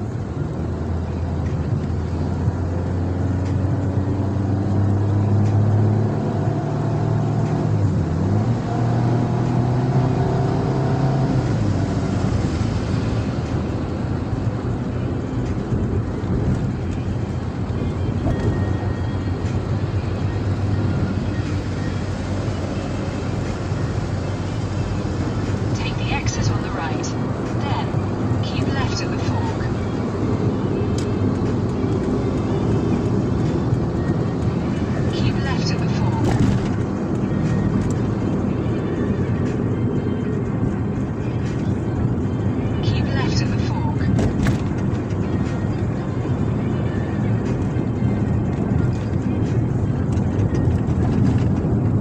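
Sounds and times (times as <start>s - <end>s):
car engine accelerating: 0.0s - 52.0s
road and tyre noise: 0.0s - 52.0s.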